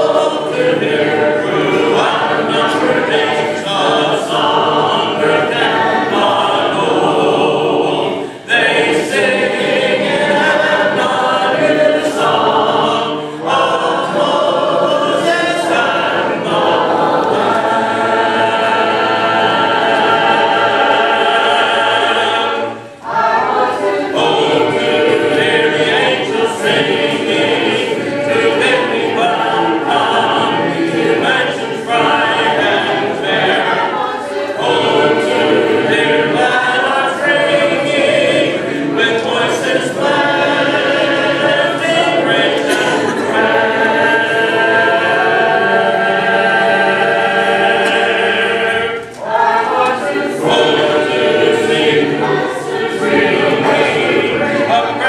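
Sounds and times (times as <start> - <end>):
congregation singing a cappella: 0.0 - 55.0.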